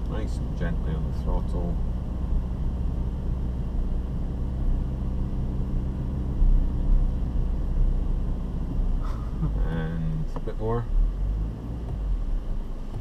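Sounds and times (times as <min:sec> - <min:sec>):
car engine and drivetrain rumble: 0:00.0 - 0:13.0
heavy low bumps: 0:00.0 - 0:13.0.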